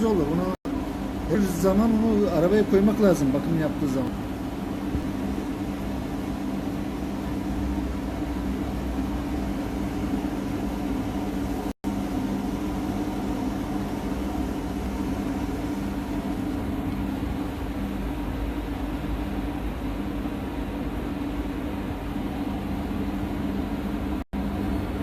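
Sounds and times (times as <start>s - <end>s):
machine running with low hum: 0.0s - 25.0s.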